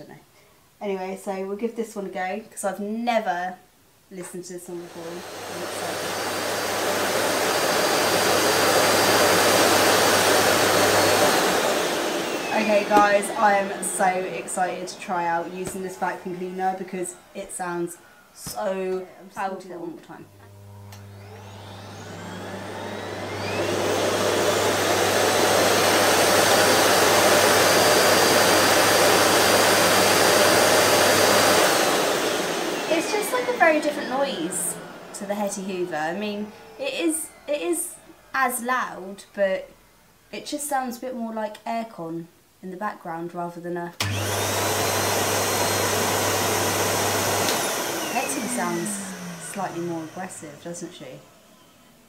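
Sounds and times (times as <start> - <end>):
vacuum cleaner motor running: 4.8 - 39.0, 44.0 - 52.0.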